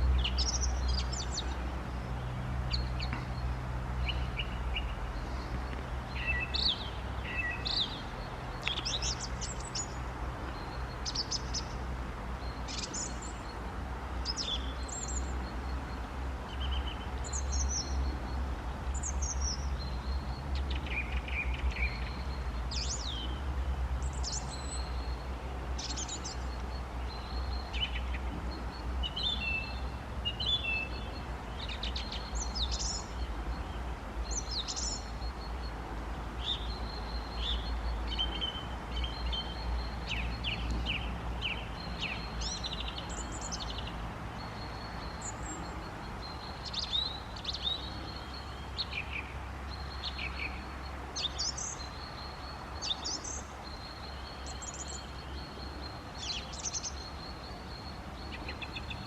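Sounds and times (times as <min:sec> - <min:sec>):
songbirds chirping and whistling: 0:00.0 - 0:59.0.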